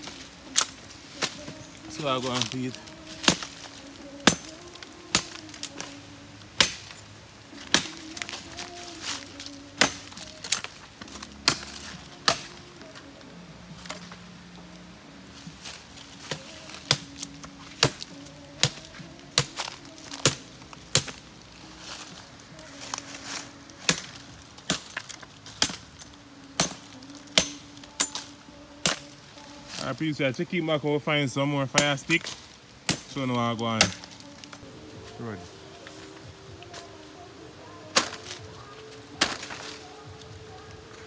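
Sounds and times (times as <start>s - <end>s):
firewood sticks cracking: 0.0s - 41.0s.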